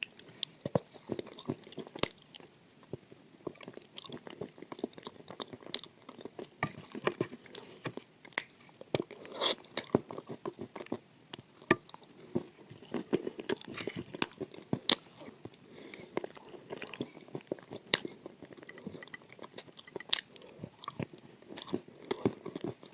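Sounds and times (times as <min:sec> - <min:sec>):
chewing crunchy food: 0:00.0 - 0:22.9.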